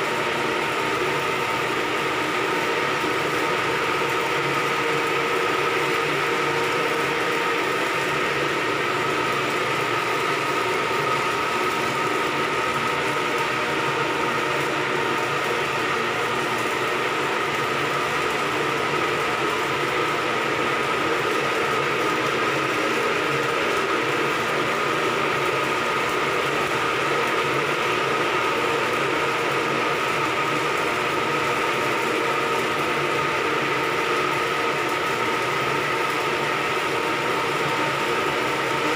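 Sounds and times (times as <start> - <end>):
arc welding crackling: 0.0 - 38.9
high machinery whine: 0.0 - 38.9.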